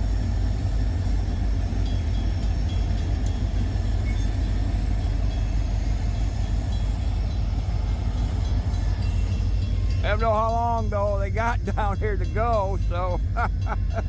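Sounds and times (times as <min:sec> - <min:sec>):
freight train rumble: 0:00.0 - 0:14.0.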